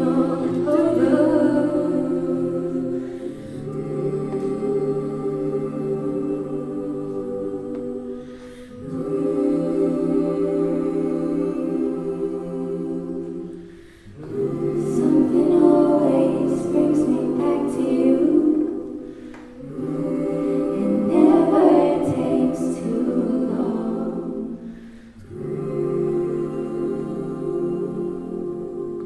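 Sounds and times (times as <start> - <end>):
a cappella group singing chords: 0.0 - 29.0.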